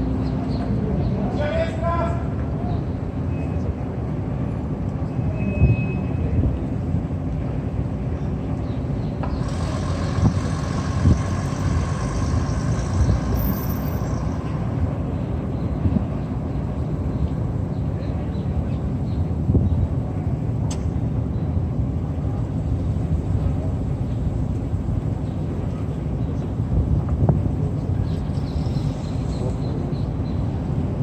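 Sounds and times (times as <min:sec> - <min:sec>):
city traffic rumble: 0:00.0 - 0:31.0
high-pitched vehicle hum: 0:02.3 - 0:31.0.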